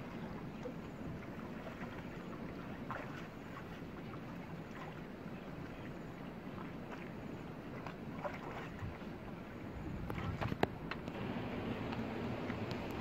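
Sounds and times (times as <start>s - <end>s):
small splashes: 0.0s - 13.0s
water sloshing as people wade: 0.0s - 13.0s.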